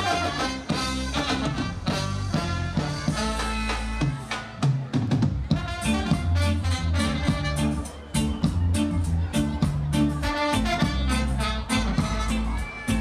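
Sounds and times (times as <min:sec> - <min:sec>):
trombone and saxophone: 0:00.0 - 0:04.6, 0:05.5 - 0:13.0
bass guitar: 0:00.0 - 0:13.0
drum kit: 0:00.0 - 0:13.0.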